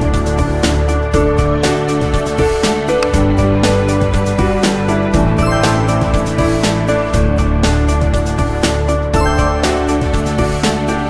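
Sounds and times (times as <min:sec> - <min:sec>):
steady bass line: 0:00.0 - 0:10.9
background music with a beat: 0:00.0 - 0:11.0.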